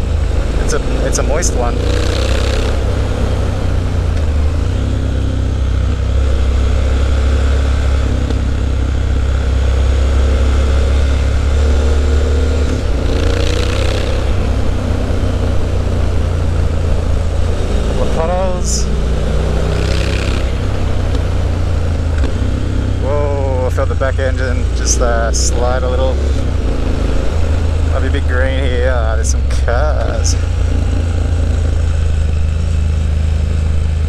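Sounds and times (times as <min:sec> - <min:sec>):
deep exhaust note: 0:00.0 - 0:34.0
motorcycle engine running: 0:00.0 - 0:34.0.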